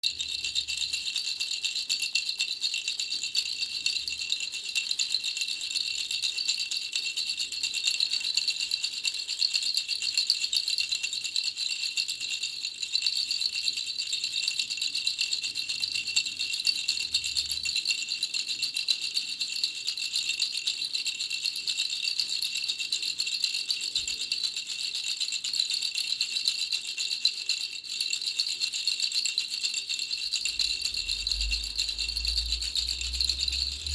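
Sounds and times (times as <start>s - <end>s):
baby rattle shaking: 0.0s - 33.9s.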